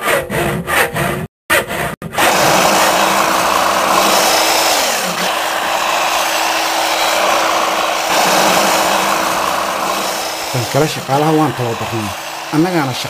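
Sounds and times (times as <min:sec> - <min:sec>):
power tool motor whining: 0:02.2 - 0:13.0.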